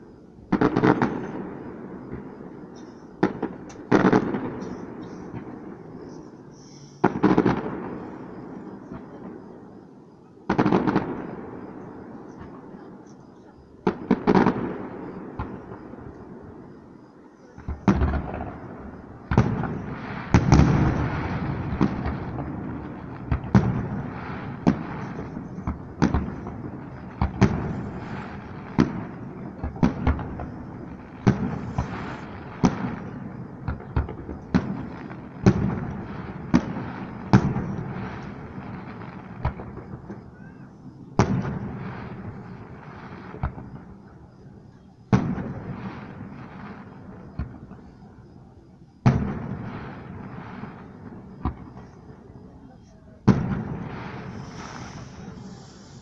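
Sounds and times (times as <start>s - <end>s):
fireworks bangs with echo: 0.0s - 56.0s.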